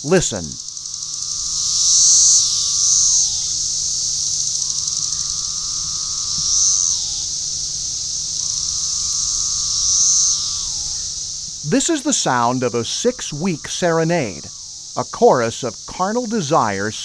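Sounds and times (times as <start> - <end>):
cicadas high buzz: 0.0 - 17.0
cicadas lower droning call: 0.0 - 17.0.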